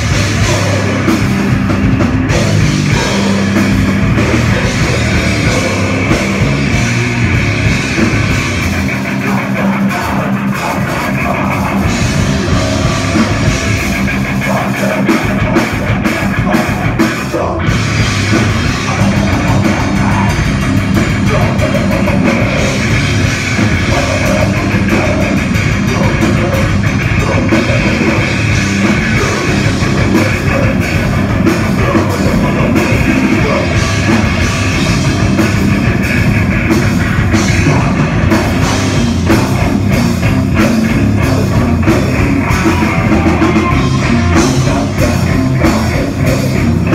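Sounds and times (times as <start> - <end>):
distorted electric guitars: 0.0 - 46.9
drum kit: 0.0 - 46.9.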